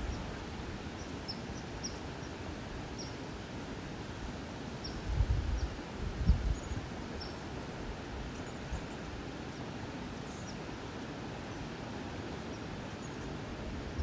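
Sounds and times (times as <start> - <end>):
river flowing: 0.1 - 5.0, 6.8 - 14.0.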